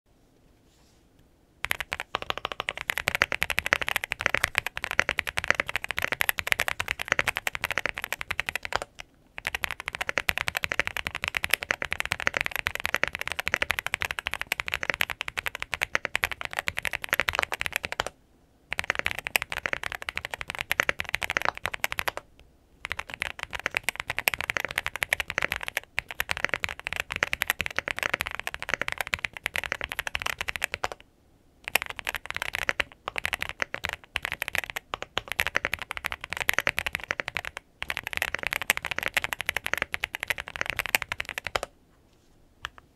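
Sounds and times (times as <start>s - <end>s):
mechanical keyboard typing: 1.6s - 31.0s, 31.7s - 41.7s.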